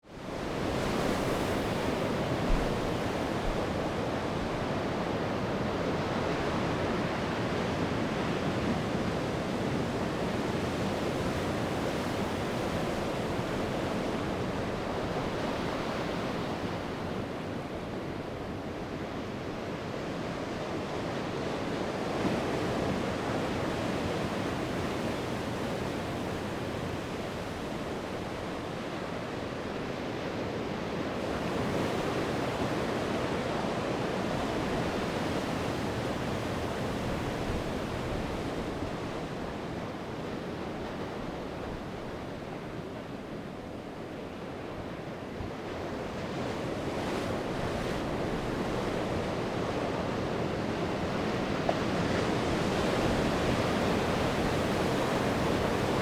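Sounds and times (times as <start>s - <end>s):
sea waves breaking on shore: 0.1s - 56.0s.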